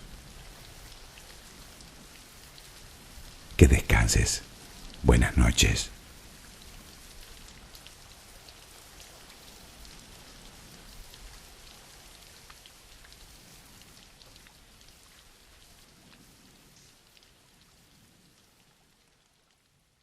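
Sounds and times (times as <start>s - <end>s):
raindrops ticking on a surface: 0.0s - 3.6s, 6.0s - 20.0s
gentle rain: 0.0s - 20.0s.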